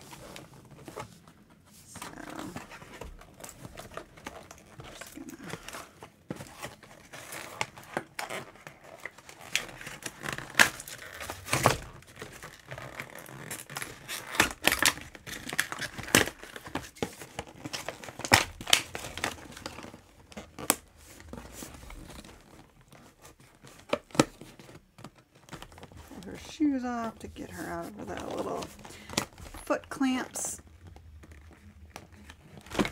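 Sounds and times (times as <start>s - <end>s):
cardboard and plastic packaging tearing: 2.0s - 30.0s, 30.6s - 32.9s.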